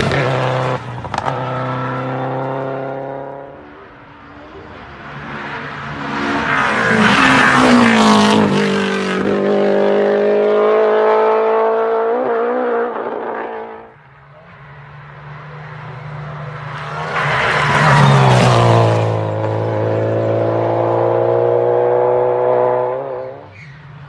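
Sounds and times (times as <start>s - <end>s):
rally car engine passing by: 0.0s - 23.8s.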